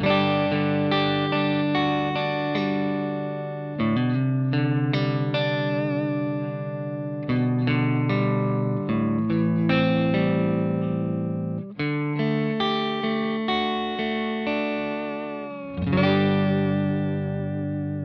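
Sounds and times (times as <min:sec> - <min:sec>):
electric guitar chords ringing: 0:00.0 - 0:18.0.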